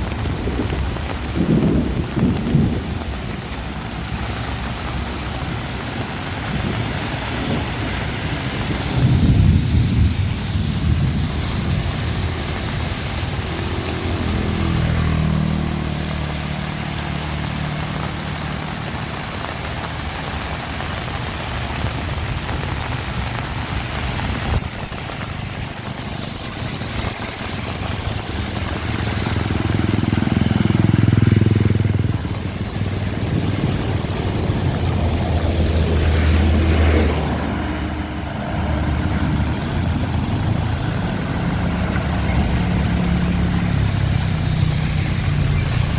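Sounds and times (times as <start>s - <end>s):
steady rain: 0.0s - 45.9s
vehicles passing: 0.0s - 45.9s.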